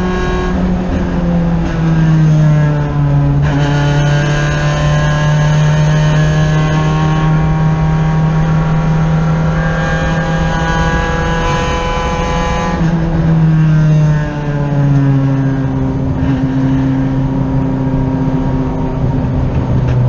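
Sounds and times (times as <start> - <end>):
race car engine under load: 0.0 - 20.0.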